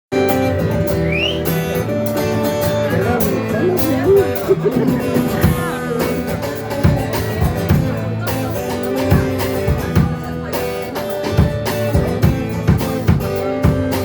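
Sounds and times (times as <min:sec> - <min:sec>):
rock band playing: 0:00.1 - 0:14.0
wavering lead guitar melody: 0:00.1 - 0:14.0.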